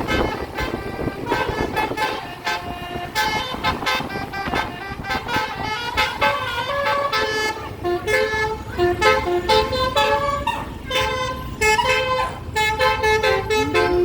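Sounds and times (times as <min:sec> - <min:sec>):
bus horn playing melody: 0:00.0 - 0:14.0
engine and road rumble: 0:00.0 - 0:14.0.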